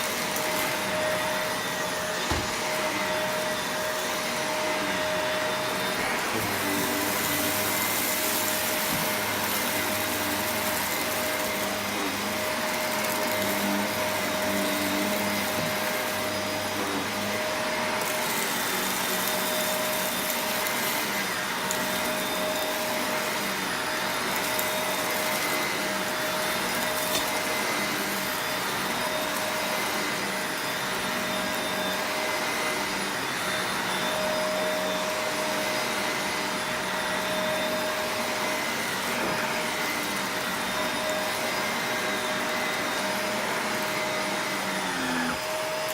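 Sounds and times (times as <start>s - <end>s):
upright vacuum running: 0.0s - 45.9s.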